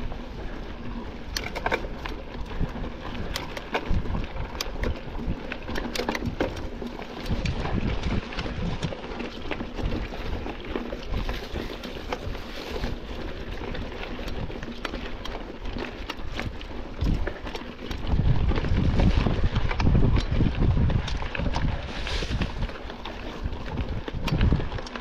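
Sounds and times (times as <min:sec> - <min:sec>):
mountain bike rattling: 0:00.0 - 0:25.0
wind noise on microphone: 0:00.0 - 0:25.0.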